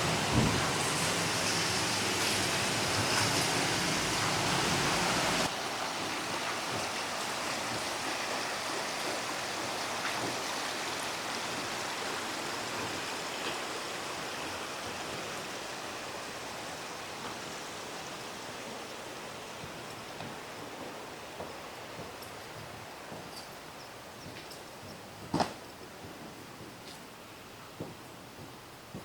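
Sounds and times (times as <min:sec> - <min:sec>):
rushing stream water: 0:00.0 - 0:26.0.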